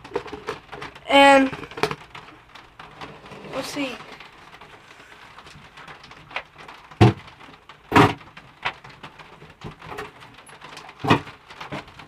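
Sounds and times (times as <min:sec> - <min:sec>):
light clicks and bumps: 0:00.0 - 0:12.0.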